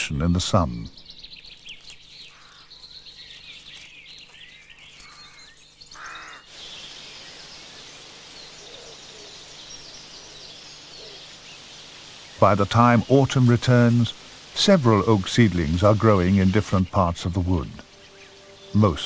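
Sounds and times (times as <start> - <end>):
background hiss: 0.0 - 19.0
small birds chirping: 0.0 - 19.0.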